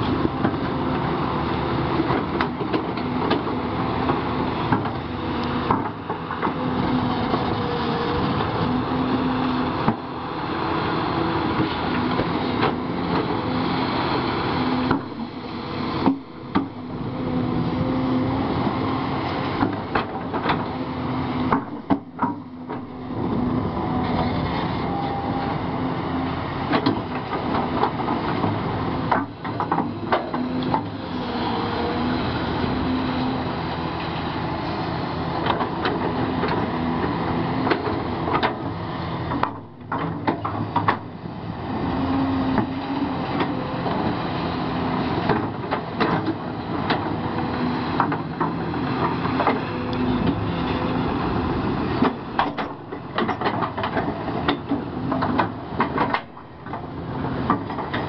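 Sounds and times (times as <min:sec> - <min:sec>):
excavator engine under load: 0:00.0 - 0:58.0.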